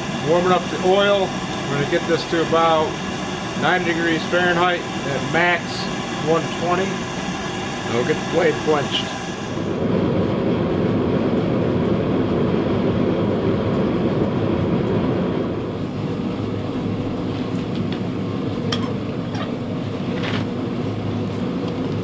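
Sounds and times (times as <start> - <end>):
forge rushing noise: 0.0 - 22.0.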